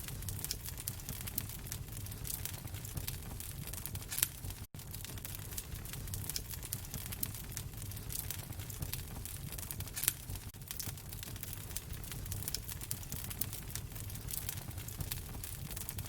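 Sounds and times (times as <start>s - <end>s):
wood fire crackling: 0.0s - 16.0s
loud fire snap: 0.1s - 16.0s.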